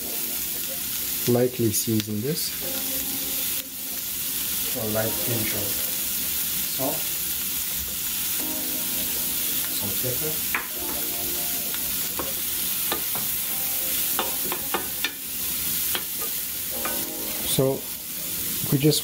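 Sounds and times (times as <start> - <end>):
vegetables sizzling in butter: 0.0 - 19.0.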